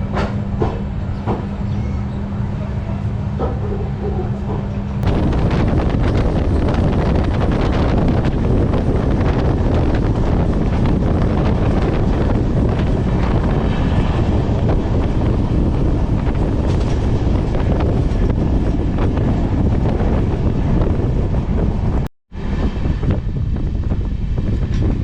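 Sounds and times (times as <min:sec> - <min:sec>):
passenger train running: 0:00.0 - 0:25.0
wind buffeting microphone: 0:00.0 - 0:25.0.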